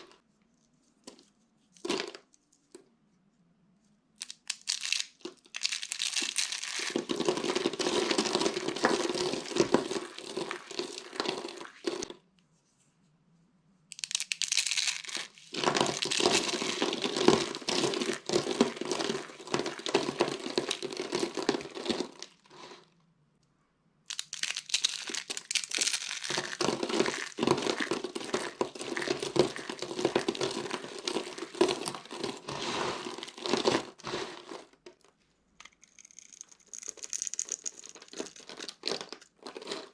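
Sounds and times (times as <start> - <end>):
soap crunching and crackling: 4.2 - 12.1, 13.9 - 22.8, 24.1 - 39.9.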